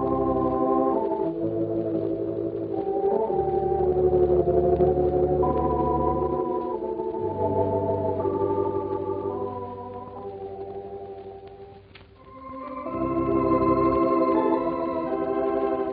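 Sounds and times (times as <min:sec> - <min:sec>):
organ music: 0:00.0 - 0:15.9.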